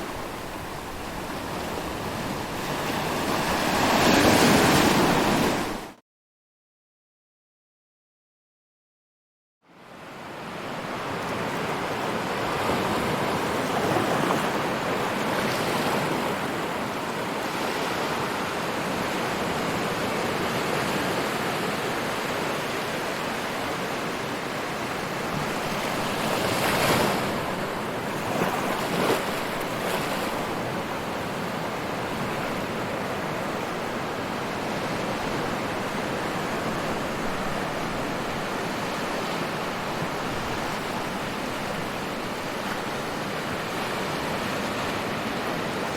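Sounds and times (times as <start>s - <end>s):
ocean surf breaking: 0.0s - 6.0s, 11.0s - 45.9s.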